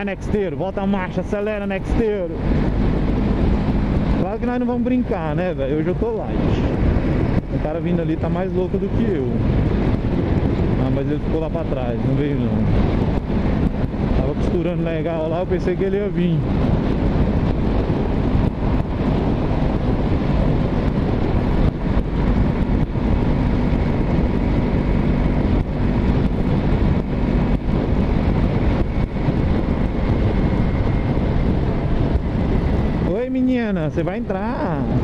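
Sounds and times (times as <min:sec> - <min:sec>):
motorcycle engine cruising: 0:00.0 - 0:35.0
wind rush on microphone: 0:00.0 - 0:35.0.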